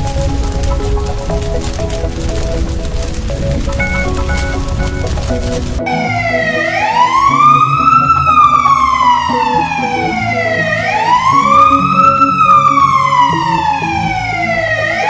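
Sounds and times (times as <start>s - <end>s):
background music: 0.0s - 15.0s
emergency siren wailing: 0.0s - 15.0s.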